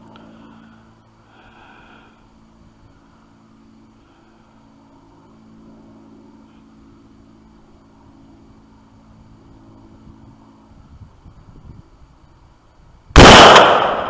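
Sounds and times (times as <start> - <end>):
faint low engine-like hum: 0.0 - 14.0.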